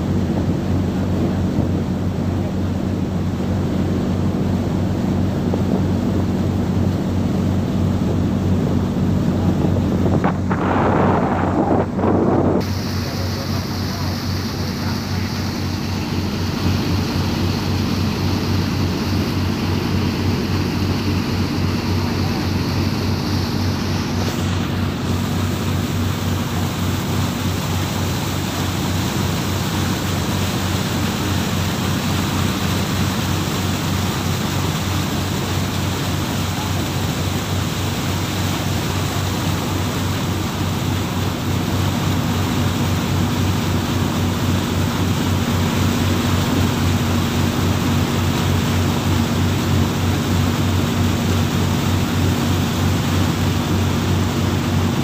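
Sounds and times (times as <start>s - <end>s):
boat engine running: 0.0s - 55.0s
water rushing along hull: 0.0s - 55.0s.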